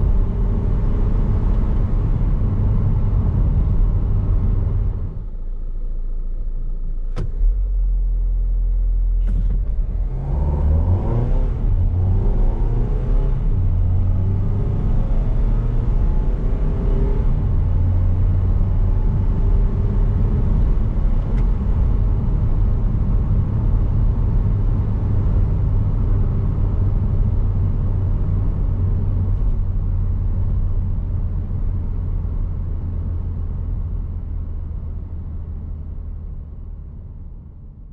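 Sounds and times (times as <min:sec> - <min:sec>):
diesel engine accelerating: 0:00.0 - 0:05.4, 0:06.6 - 0:37.9.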